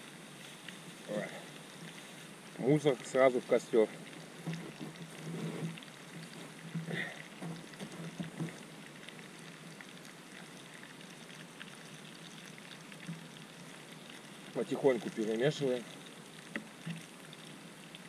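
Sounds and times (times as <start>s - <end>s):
campfire crackling: 0.0s - 18.0s
pan bubbling: 0.0s - 18.0s.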